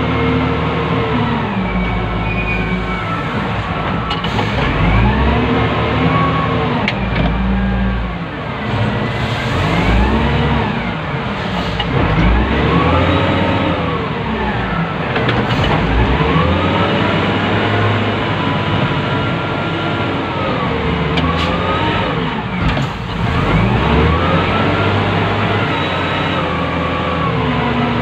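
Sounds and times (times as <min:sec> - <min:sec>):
diesel engine revving: 0:00.0 - 0:28.0.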